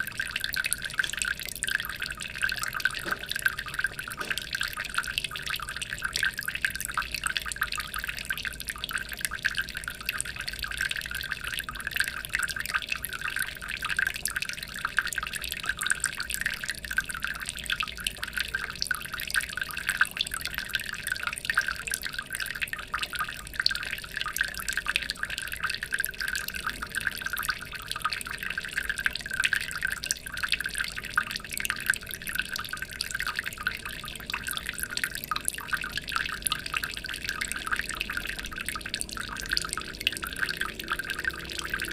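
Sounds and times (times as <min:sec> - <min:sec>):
water trickling into aquarium: 0:00.0 - 0:41.9.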